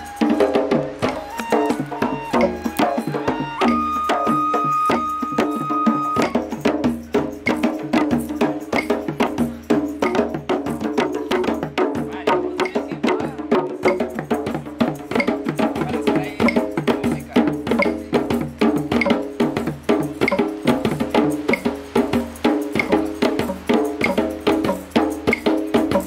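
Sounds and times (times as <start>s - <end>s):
hand drums playing fast rhythm: 0.0s - 26.0s.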